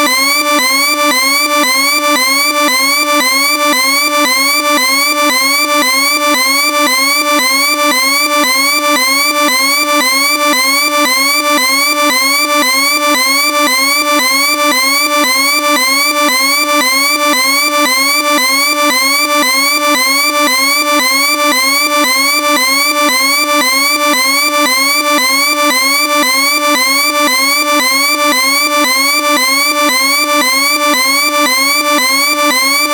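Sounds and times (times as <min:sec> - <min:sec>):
electronic warning siren: 0:00.0 - 0:32.9.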